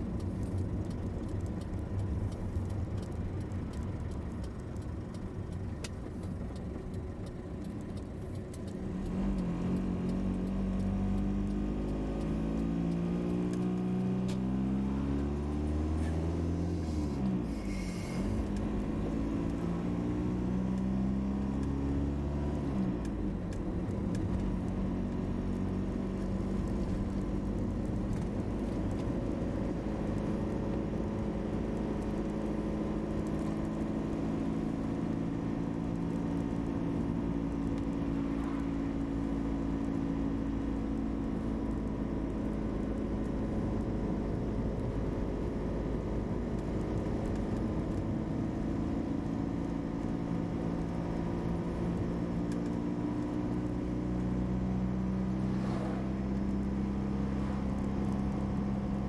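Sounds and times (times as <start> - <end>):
car engine accelerating: 0.0 - 59.0
road noise rumble: 0.0 - 59.0.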